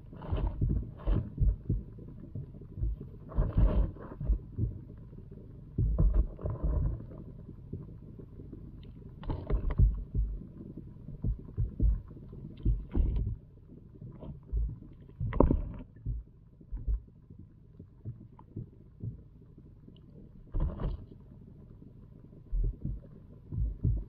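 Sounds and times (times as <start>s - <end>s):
muffled thumps through water: 0.0s - 21.3s, 22.4s - 24.0s
low steady rumble: 0.0s - 24.0s.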